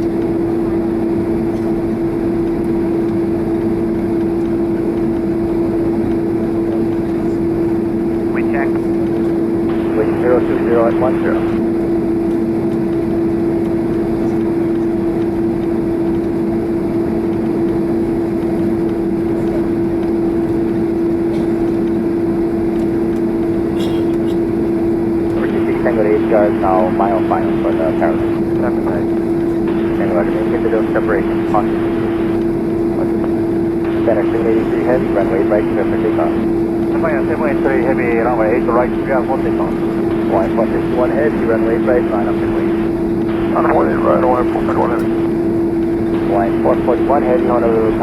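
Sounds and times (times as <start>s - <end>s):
jet engines idling: 0.0s - 48.0s.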